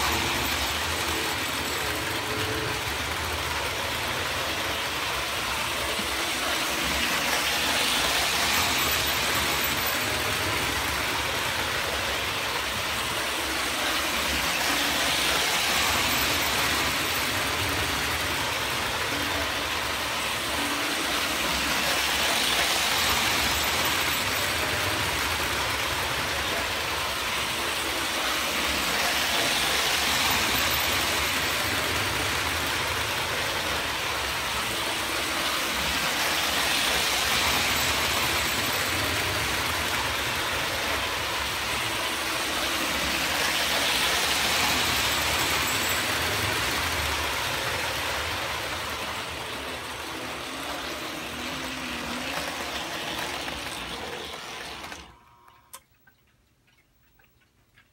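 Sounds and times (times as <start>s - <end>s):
toy train wheels rattling on track: 0.0s - 55.1s
toy train motors whirring: 0.0s - 55.2s.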